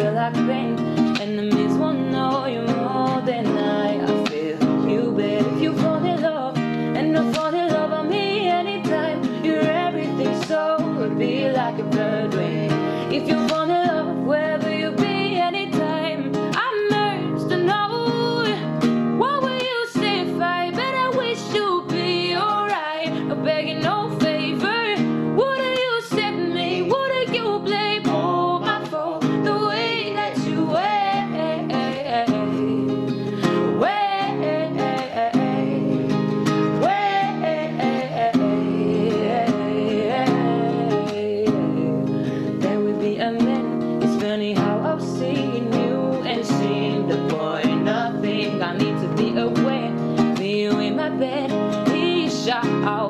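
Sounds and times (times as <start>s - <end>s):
strummed acoustic guitar: 0.0s - 53.0s
woman singing: 0.0s - 53.0s.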